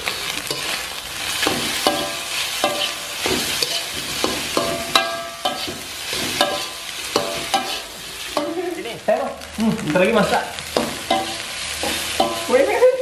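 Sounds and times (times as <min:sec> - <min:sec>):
metal spatula scraping a wok: 0:00.0 - 0:08.6, 0:10.8 - 0:12.8
food sizzling in oil: 0:00.0 - 0:13.0
wok ringing: 0:00.5 - 0:08.8, 0:10.7 - 0:13.0.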